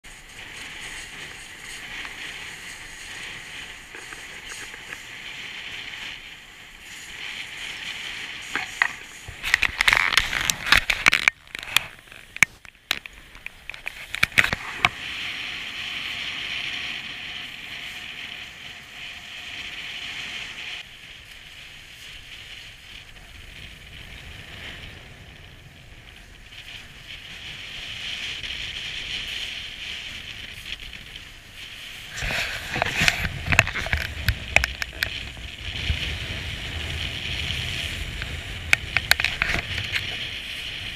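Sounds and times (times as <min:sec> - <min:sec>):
crackling scraping on snow: 0:00.0 - 0:40.9
wind and snow sliding hiss: 0:00.0 - 0:40.9.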